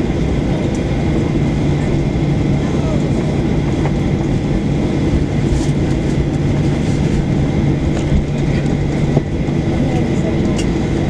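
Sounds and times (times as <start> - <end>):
jet engines idling: 0.0 - 11.0
steady low hum: 0.0 - 11.0
wheels rolling on taxiway: 0.0 - 11.0.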